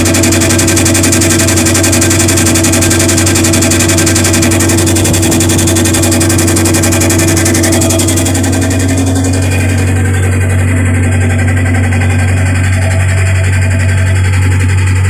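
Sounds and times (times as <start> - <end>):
higher whirring: 0.0 - 15.0
washing machine motor humming: 0.0 - 15.0.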